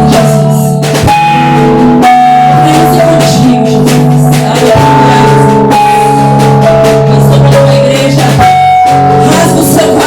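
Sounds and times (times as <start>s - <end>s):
live band music: 0.0s - 10.0s
sharp drum hit: 0.0s - 10.0s.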